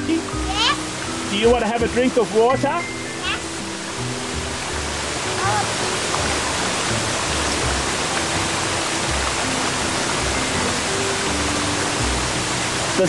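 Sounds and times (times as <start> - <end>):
creek rushing over rocks: 0.0 - 13.0
soft background music: 0.0 - 13.0.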